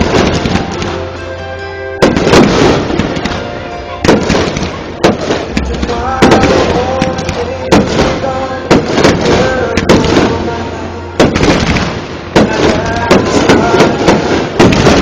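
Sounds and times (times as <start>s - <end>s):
fireworks bursting bangs: 0.0s - 1.3s, 2.0s - 15.0s
background voices or music: 0.0s - 15.0s.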